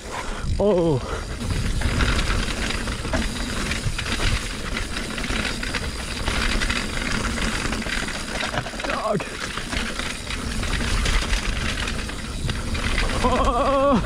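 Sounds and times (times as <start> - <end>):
bike rattling over bumps: 0.0 - 14.0
tyres rushing over dirt: 0.0 - 14.0.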